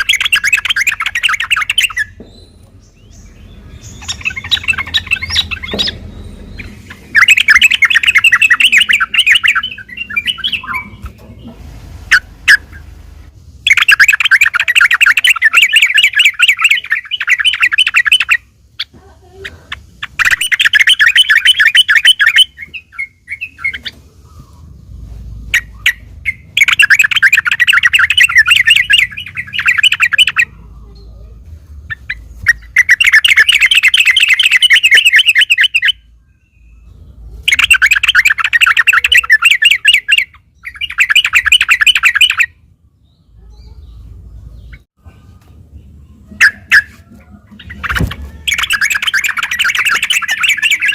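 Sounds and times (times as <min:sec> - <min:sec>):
bird singing rapid chattering notes: 0:00.0 - 0:11.5, 0:13.5 - 0:45.0, 0:45.8 - 0:50.9.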